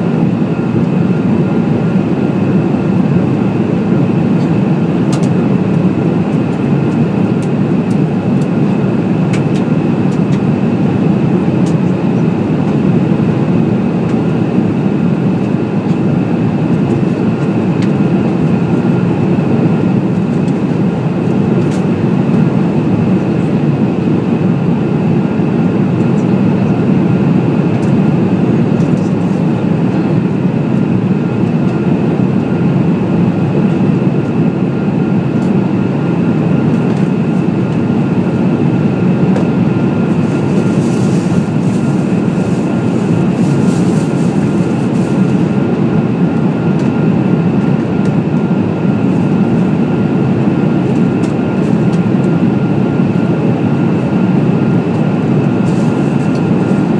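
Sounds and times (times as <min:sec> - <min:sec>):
airliner cabin engine roar: 0:00.0 - 0:56.9.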